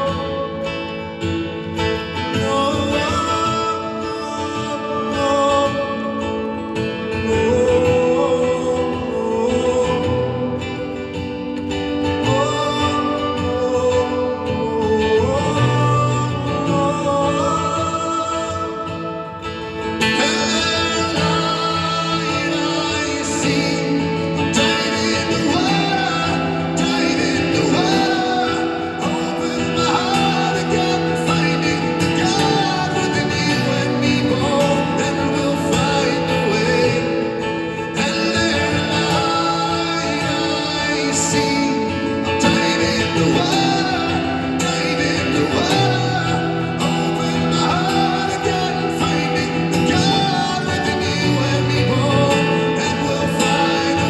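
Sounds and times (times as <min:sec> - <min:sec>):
instrumental music with guitar: 0:00.0 - 0:54.0.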